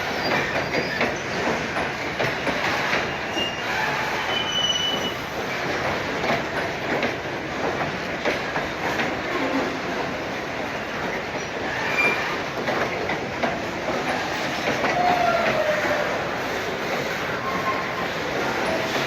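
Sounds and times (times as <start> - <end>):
steel wheels squealing on rail: 0.0 - 6.8, 8.5 - 19.0
train wheels clattering over rail joints: 0.0 - 19.0.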